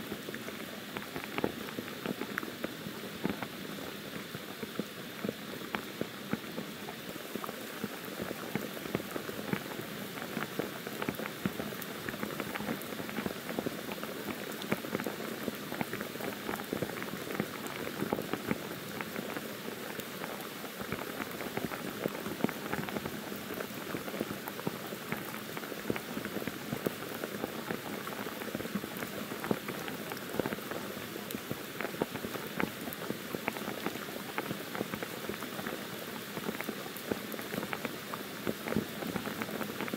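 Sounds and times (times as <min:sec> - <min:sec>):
rain pouring on foliage: 0:00.0 - 0:39.9.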